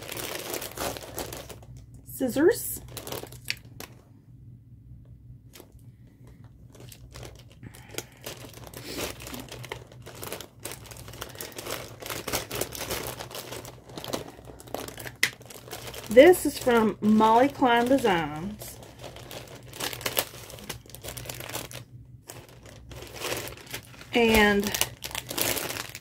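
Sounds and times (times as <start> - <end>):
packaging crinkling and tearing: 0.0 - 4.0, 5.5 - 26.0.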